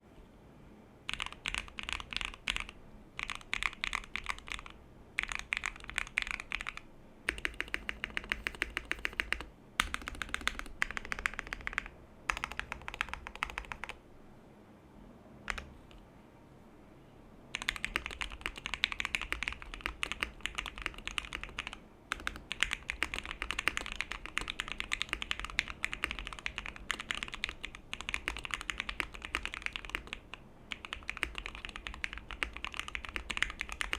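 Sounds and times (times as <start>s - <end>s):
mechanical keyboard typing: 1.1s - 14.0s, 15.5s - 16.0s, 17.5s - 33.9s.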